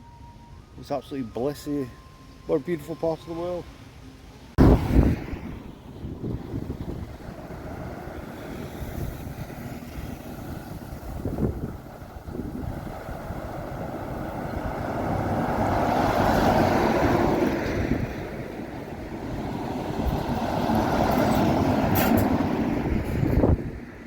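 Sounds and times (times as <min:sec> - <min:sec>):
road rumble: 0:00.0 - 0:24.0
wind buffeting microphone: 0:04.6 - 0:24.0.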